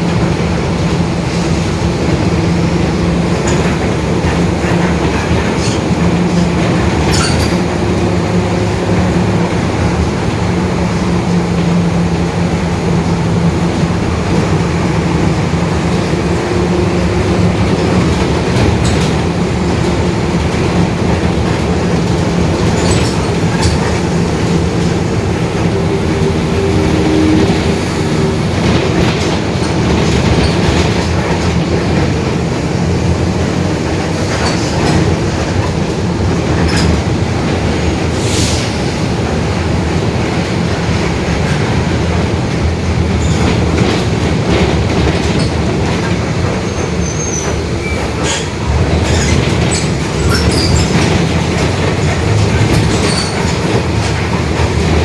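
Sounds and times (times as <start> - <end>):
bus body rattles: 0.0 - 55.0
bus diesel engine drone: 0.0 - 55.0.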